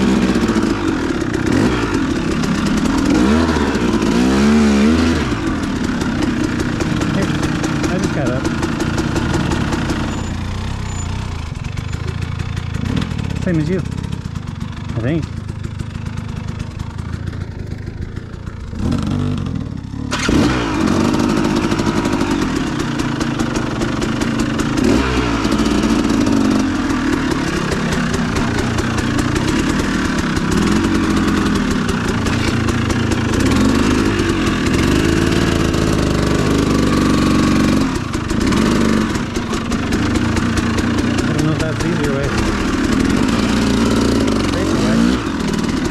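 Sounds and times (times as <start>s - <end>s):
dirt bike engine revving: 0.0s - 17.4s, 18.1s - 45.9s.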